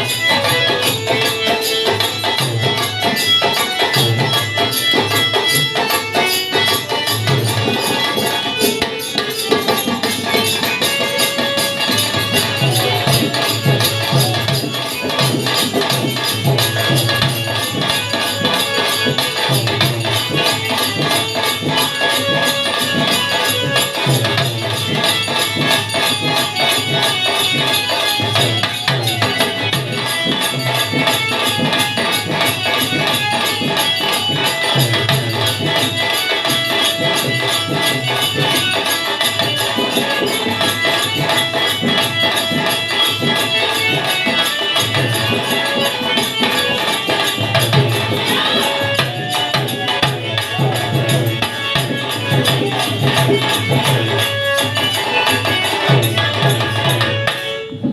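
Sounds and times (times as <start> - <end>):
jingling shaker percussion: 0.0 - 57.9
steady drum beat: 0.0 - 57.9.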